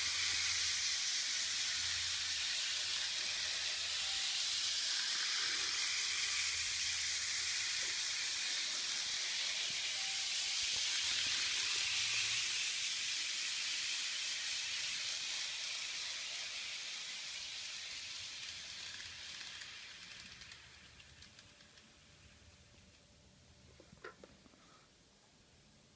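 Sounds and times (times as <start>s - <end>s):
model train running on track: 0.0s - 22.5s.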